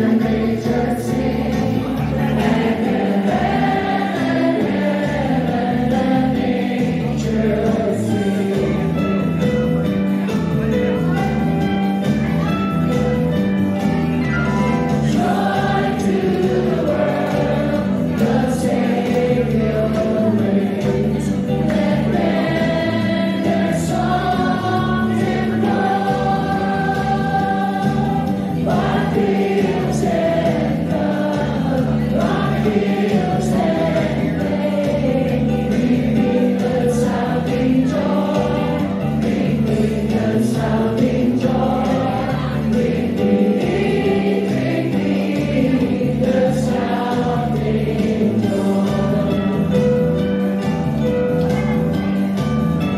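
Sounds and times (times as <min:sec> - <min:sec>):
choir singing a carol: 0:00.0 - 0:09.4, 0:14.3 - 0:50.7.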